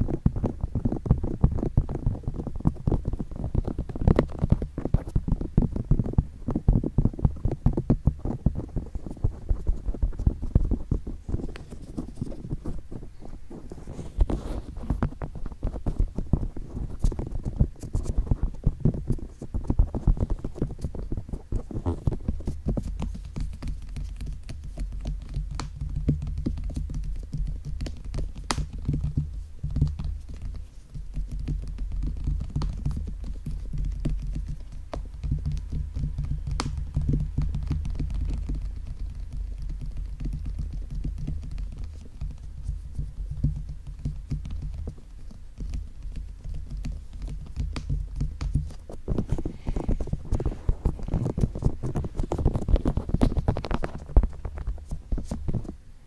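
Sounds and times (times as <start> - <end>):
fingers tapping on microphone: 0.0 - 55.8
rubbing microphone rustle: 0.0 - 56.0.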